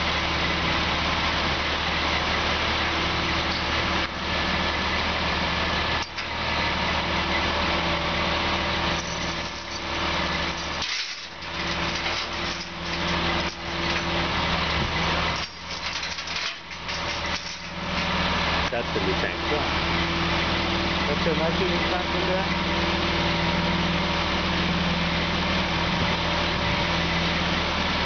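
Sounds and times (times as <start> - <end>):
crane engine running: 0.0 - 28.0.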